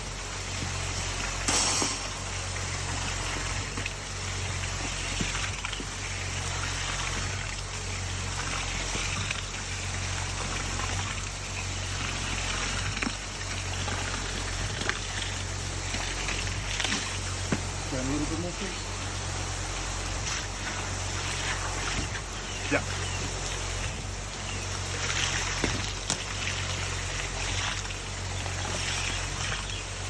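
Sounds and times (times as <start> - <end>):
concrete pump droning: 0.0 - 30.0
wet concrete pouring: 0.0 - 30.0.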